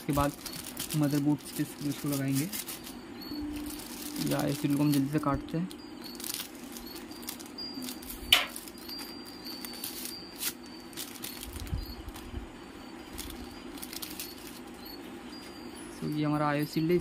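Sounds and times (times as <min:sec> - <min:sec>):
plastic wrapping crinkling: 0:00.0 - 0:17.0
steady low hum: 0:00.0 - 0:17.0.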